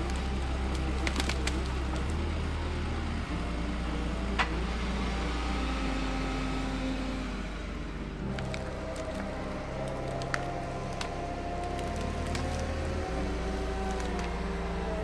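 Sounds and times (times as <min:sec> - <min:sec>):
wood cracking: 0:00.0 - 0:15.0
wood crusher droning: 0:00.0 - 0:15.0.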